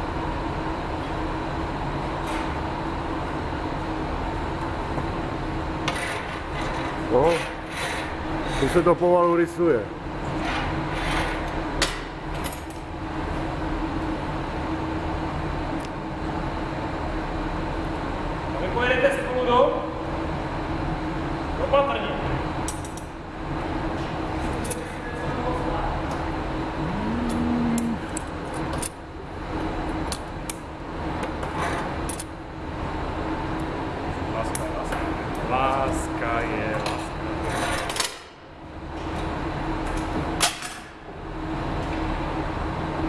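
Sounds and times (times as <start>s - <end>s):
gas furnace roaring: 0.0s - 43.0s.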